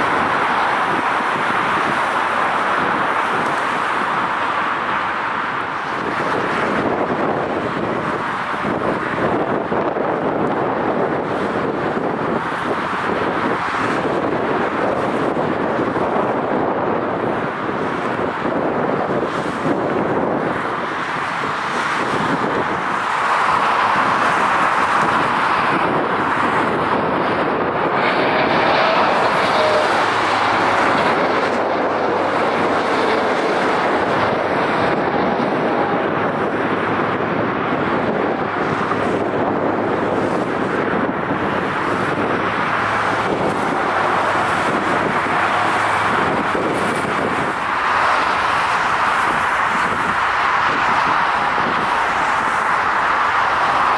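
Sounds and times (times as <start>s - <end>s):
jet engines rushing: 0.0s - 53.9s.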